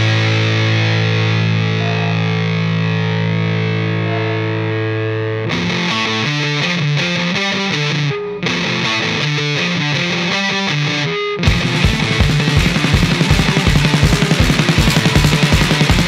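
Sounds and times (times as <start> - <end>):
rock music with distorted guitar: 0.0 - 16.0.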